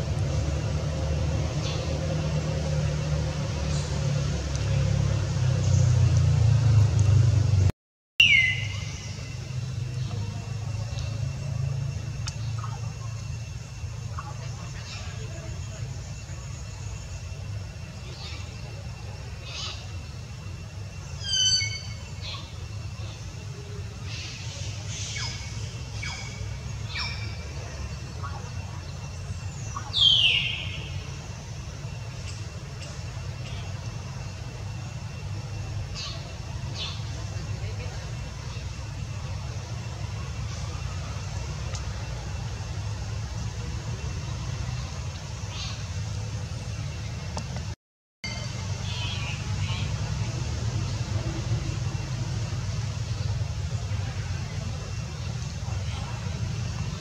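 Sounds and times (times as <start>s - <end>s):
low engine-like rumble: 0.0s - 57.0s.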